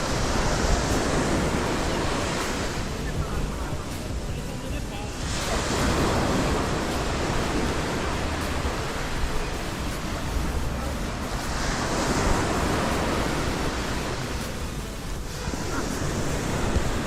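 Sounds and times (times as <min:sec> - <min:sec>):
ocean surf on sandy beach: 0:00.0 - 0:17.0.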